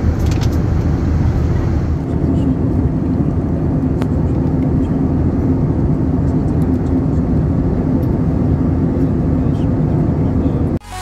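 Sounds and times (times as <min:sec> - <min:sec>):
airflow rush: 0:00.0 - 0:10.6
jet engines droning: 0:00.0 - 0:10.8
steady hum: 0:00.0 - 0:10.8.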